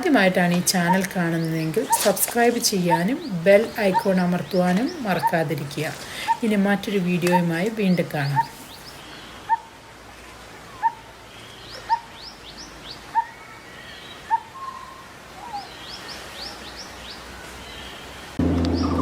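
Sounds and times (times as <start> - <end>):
birds chirping: 0.0 - 9.7, 10.6 - 19.0
outdoor ambience: 0.0 - 19.0.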